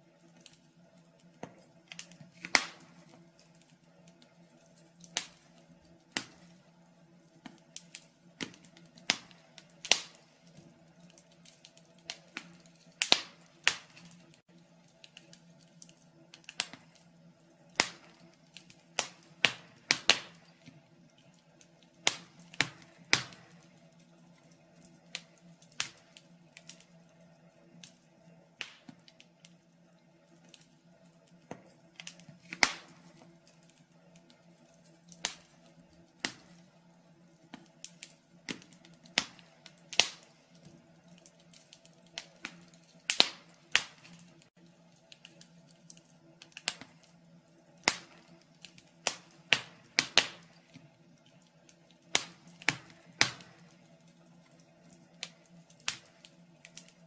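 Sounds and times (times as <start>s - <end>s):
faint steady hum: 0.0s - 57.0s
wood fire crackling and popping: 0.0s - 57.0s.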